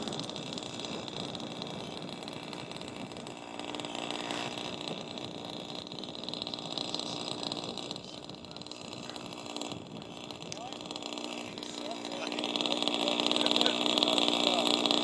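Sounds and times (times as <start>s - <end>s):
model airplane motors droning: 0.0s - 15.0s.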